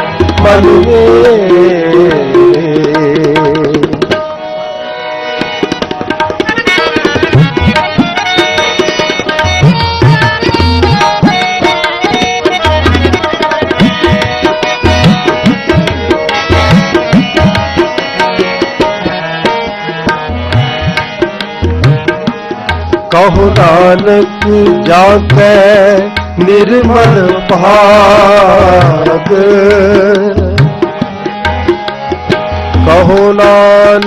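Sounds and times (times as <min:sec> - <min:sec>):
tabla strokes: 0:00.0 - 0:04.6, 0:05.2 - 0:34.0.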